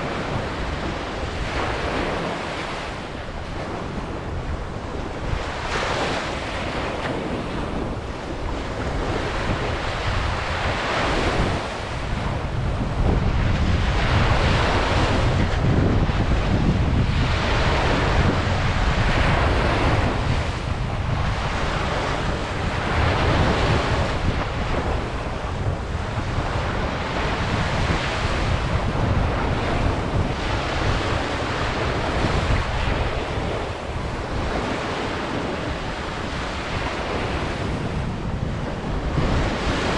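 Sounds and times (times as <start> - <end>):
ocean waves breaking on beach: 0.0 - 39.9
wind buffeting microphone: 0.0 - 39.9.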